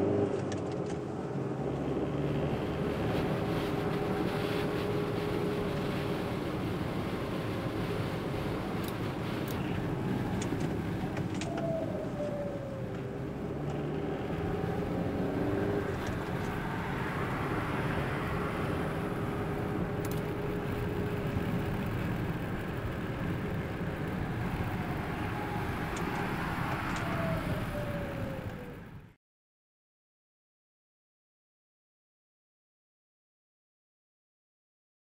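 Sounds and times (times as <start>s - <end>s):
car driving rumble from inside: 0.0s - 29.1s.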